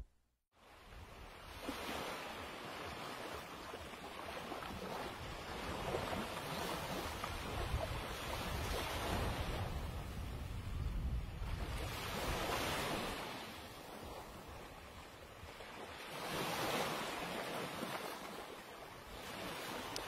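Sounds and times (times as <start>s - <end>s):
sea surf washing on shore: 0.6s - 20.0s
wind on microphone: 0.8s - 20.0s.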